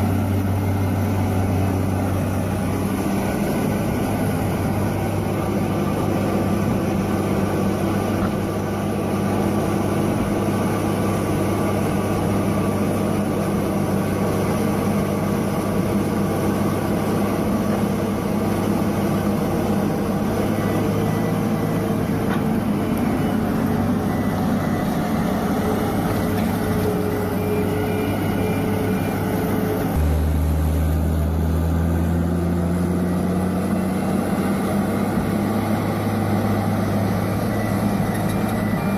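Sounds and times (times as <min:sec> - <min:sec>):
deep loud drone: 0:00.0 - 0:38.9
heavy machine engine humming: 0:00.0 - 0:38.9.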